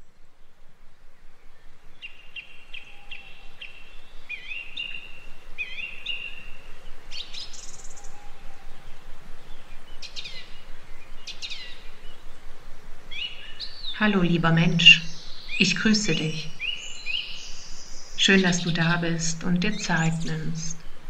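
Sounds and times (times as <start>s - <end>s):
steady background hiss: 0.0s - 21.0s
birds singing and calling: 1.4s - 12.5s, 13.1s - 21.0s.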